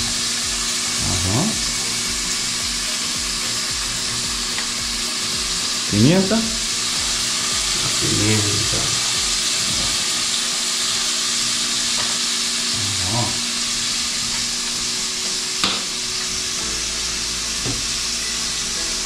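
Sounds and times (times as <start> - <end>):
meat sizzling in a pot: 0.0 - 19.0.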